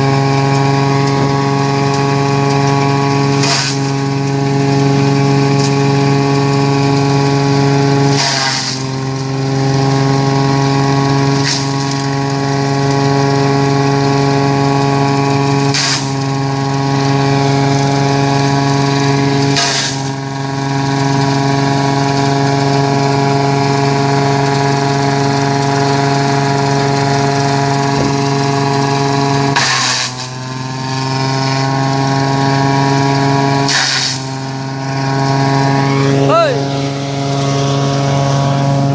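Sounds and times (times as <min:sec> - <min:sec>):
bursts of cutting noise: 0:00.0 - 0:38.9
leaf shredder running: 0:00.0 - 0:38.9.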